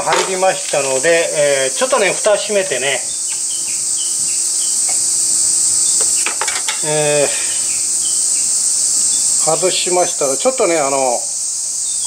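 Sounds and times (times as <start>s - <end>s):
cicada chorus buzzing: 0.0s - 12.0s.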